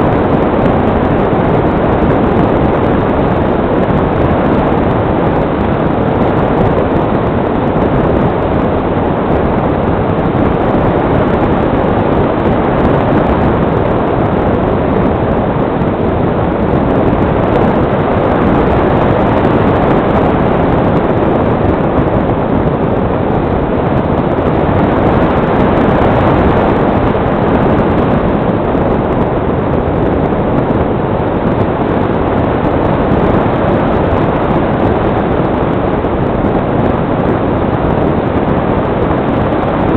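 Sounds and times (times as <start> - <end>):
airflow rushing over microphone: 0.0 - 39.9.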